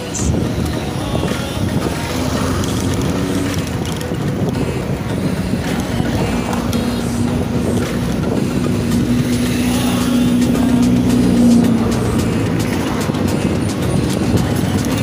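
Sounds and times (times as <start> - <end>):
car engine passing: 0.0 - 15.0
road rumble: 0.0 - 15.0
wind on microphone: 0.0 - 15.0.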